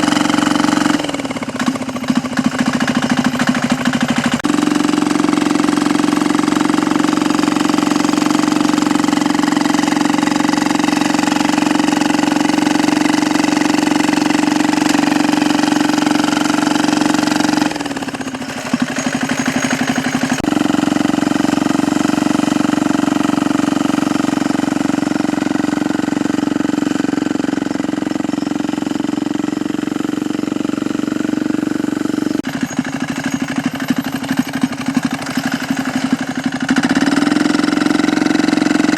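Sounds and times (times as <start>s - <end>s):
diesel engine knocking: 0.0s - 38.9s.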